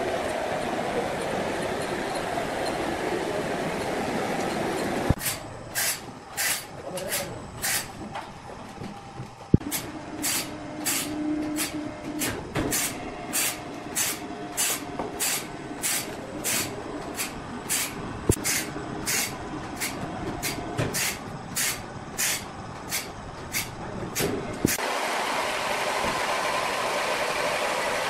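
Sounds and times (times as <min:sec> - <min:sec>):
faint machine hum: 0:00.0 - 0:28.0.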